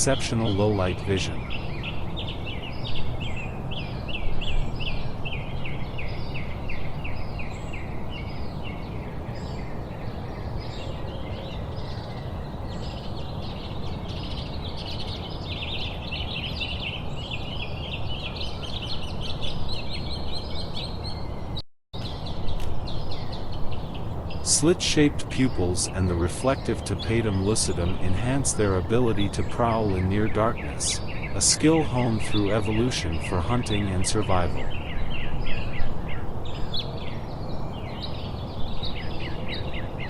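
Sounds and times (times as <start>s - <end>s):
background hiss and rumble: 0.0s - 21.0s, 22.0s - 40.0s
birds chirping: 0.0s - 40.0s.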